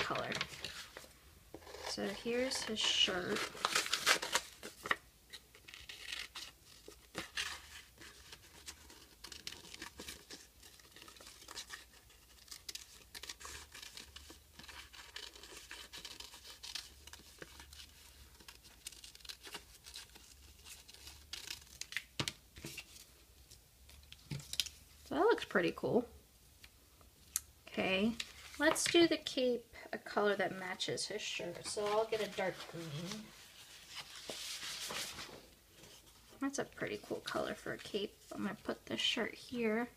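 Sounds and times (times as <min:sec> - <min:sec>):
paper rustling and crinkling: 0:00.0 - 0:25.1, 0:28.1 - 0:29.1, 0:31.1 - 0:38.4.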